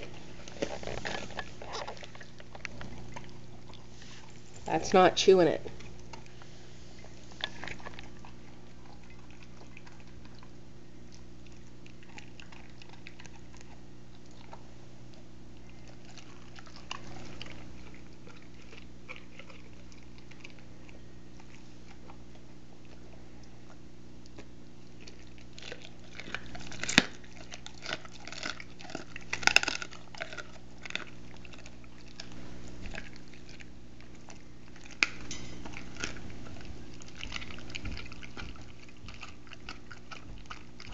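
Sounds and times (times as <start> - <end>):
dog chewing wet bites: 0.0 - 40.9.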